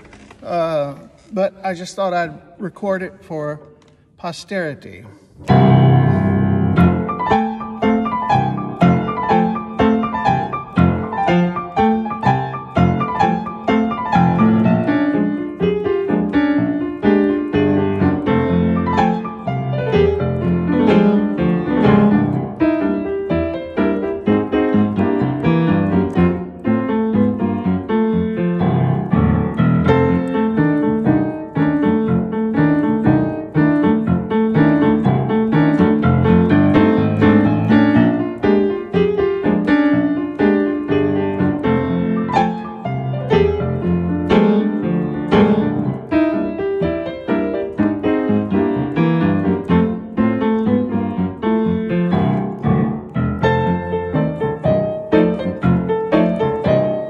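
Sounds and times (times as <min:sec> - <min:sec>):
blues piano piece: 0:04.2 - 0:57.0.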